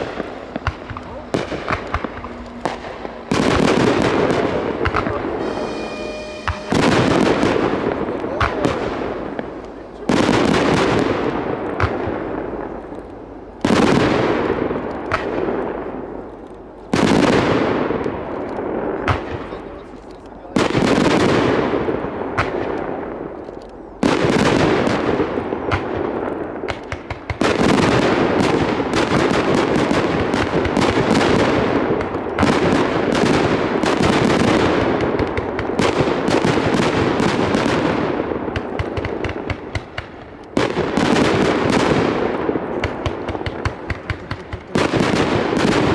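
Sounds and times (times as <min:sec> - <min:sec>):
fireworks bursting with loud bangs: 0:00.0 - 0:16.3, 0:16.9 - 0:23.4, 0:24.0 - 0:45.9
fireworks crackling: 0:00.0 - 0:45.9.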